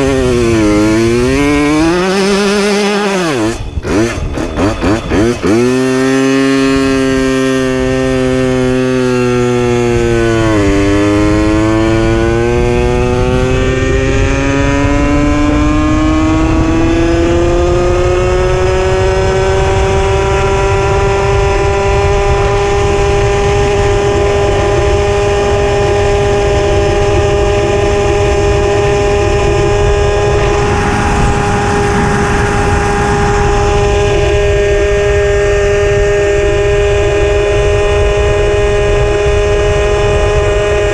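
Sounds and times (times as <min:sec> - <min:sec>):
moped engine pulling away: 0:00.0 - 0:40.9
wind rumble on microphone: 0:00.0 - 0:40.9.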